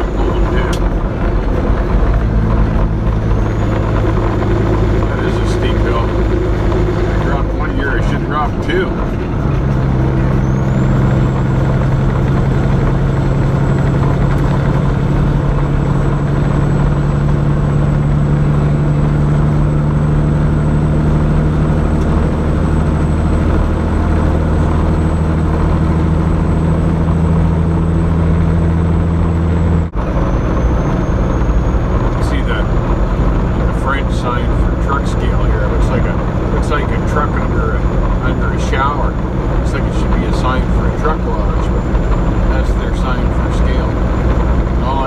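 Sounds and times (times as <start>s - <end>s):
road noise: 0.0s - 45.0s
truck diesel engine droning: 0.0s - 45.0s.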